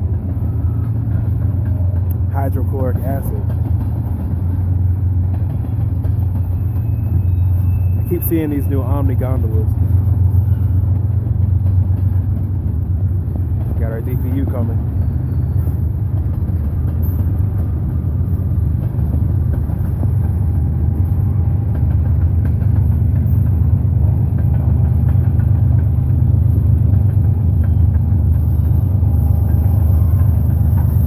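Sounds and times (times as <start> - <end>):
diesel locomotive engine rumble: 0.0 - 31.0
rolling freight cars: 0.0 - 31.0.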